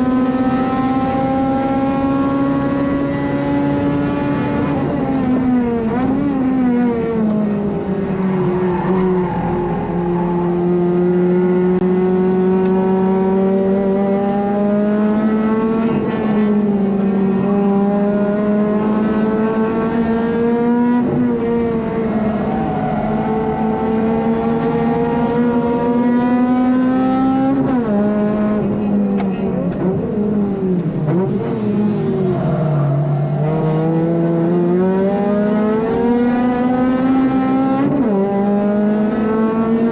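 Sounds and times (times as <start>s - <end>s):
car engine at high revs: 0.0s - 39.9s.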